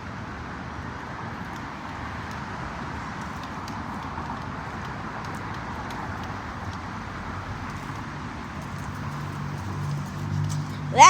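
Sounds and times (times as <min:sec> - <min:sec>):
bicycle tyres and air rushing: 0:00.0 - 0:11.0.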